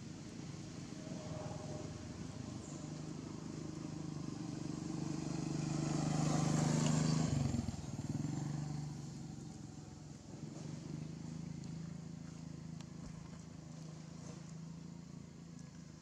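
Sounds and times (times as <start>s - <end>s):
vehicle engine passing by: 0.0s - 16.0s.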